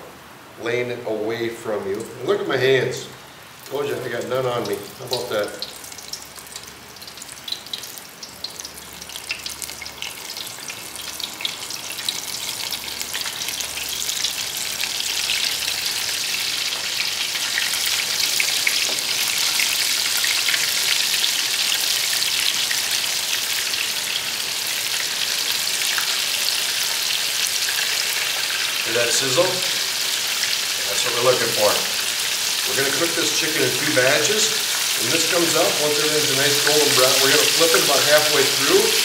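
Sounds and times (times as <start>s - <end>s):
chicken deep-frying in oil: 1.8s - 39.0s.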